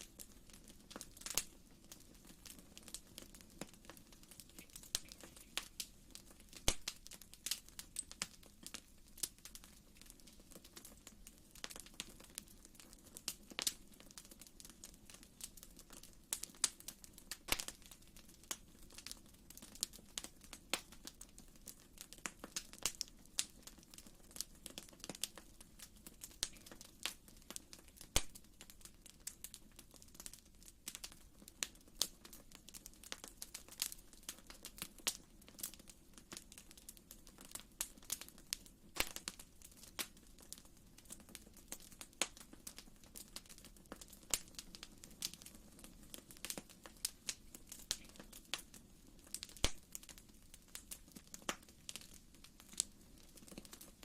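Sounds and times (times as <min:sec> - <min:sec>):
wood fire popping and snapping: 0:00.0 - 0:54.0.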